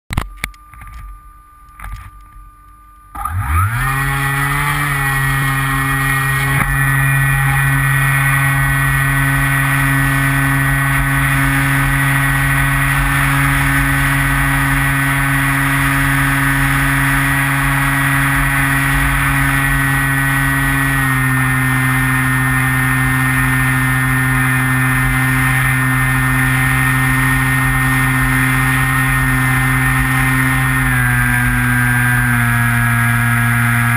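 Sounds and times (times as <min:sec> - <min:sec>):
model plane motor whine: 0:03.1 - 0:33.9.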